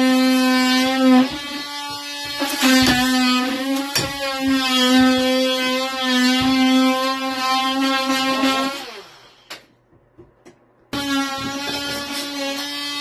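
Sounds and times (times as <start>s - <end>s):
power drill whining: 0.0s - 9.6s, 10.9s - 13.0s.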